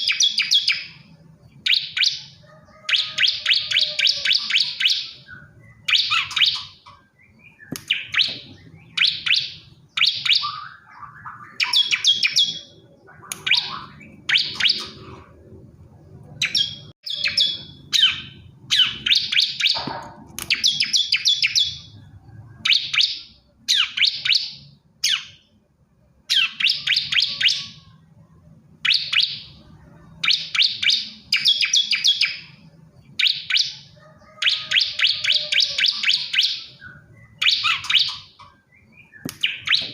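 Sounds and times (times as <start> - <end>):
bird singing rapid high chirps: 0.0 - 25.6, 26.2 - 28.1, 28.8 - 39.9.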